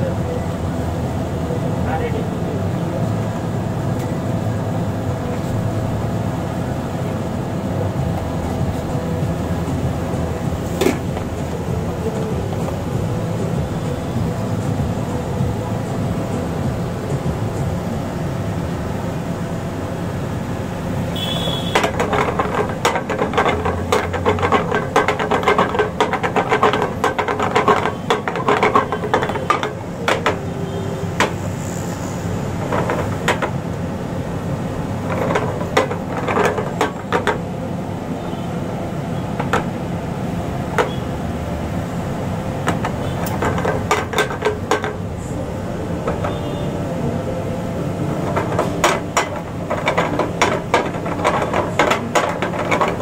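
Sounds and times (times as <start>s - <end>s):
steady background noise: 0.0s - 53.0s.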